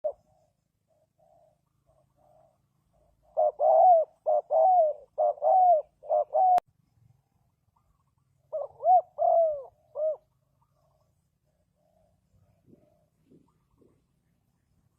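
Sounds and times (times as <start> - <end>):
dove cooing: 0.0 - 6.7, 7.8 - 14.3.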